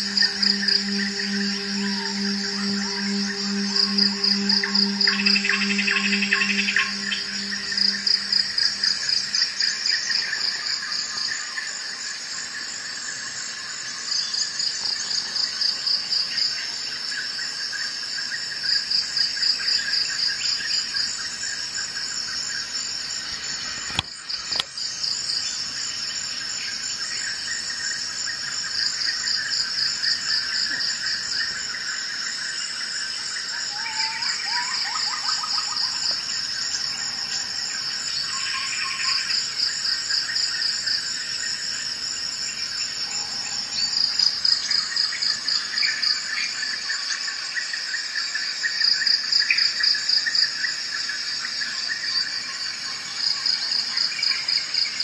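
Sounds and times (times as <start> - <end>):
crickets chirping: 0.0 - 55.0
insect chorus: 0.0 - 55.0.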